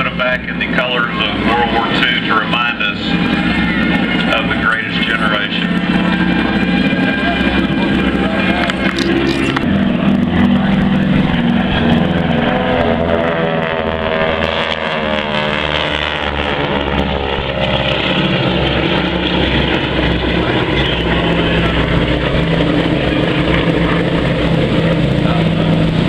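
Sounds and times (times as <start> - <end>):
radial aircraft engines flying by: 0.0 - 26.0.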